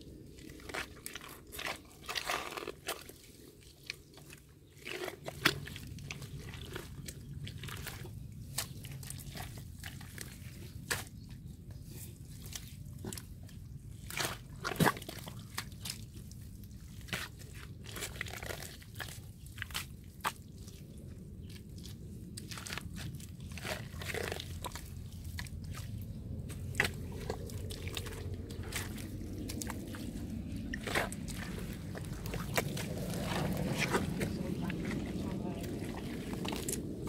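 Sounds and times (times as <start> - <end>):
spade digging wet mud: 0.3 - 37.0.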